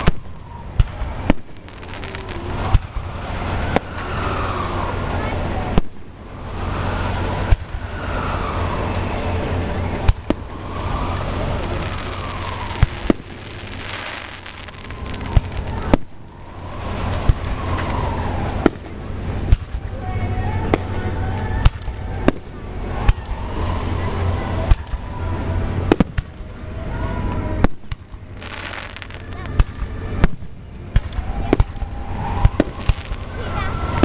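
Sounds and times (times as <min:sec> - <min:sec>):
background murmur: 0:00.0 - 0:34.0
fireworks bangs: 0:00.0 - 0:34.0.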